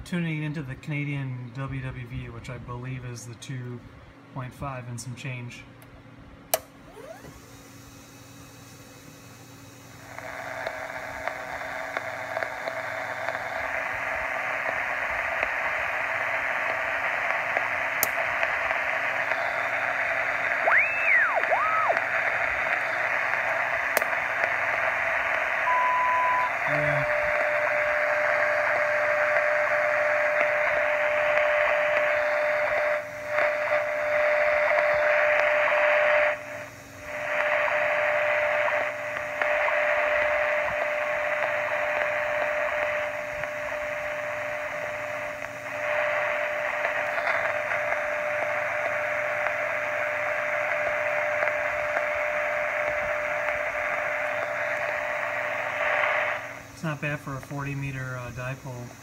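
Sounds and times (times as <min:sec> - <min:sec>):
radio static hiss: 0:00.0 - 0:05.8, 0:07.0 - 0:59.0.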